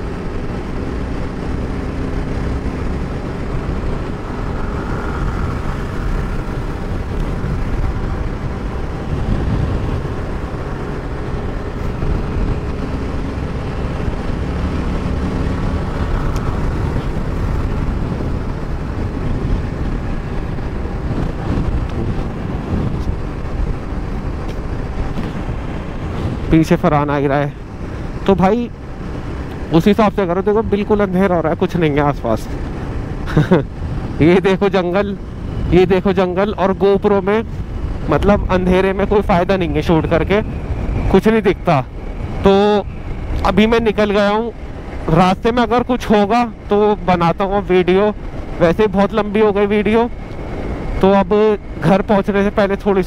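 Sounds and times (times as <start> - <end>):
motorcycle engine cruising: 0.0 - 53.0
wind and road noise: 0.0 - 53.0.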